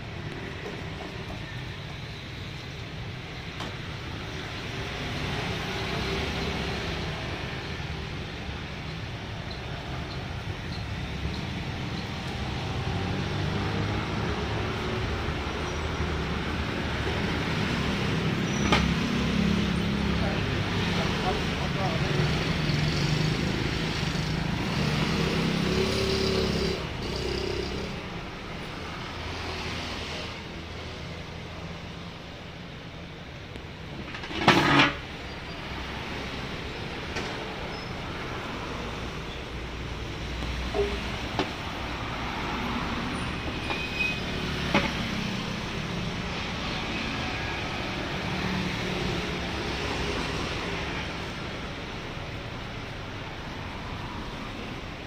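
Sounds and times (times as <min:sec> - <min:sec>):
traffic noise: 0:00.0 - 0:55.0.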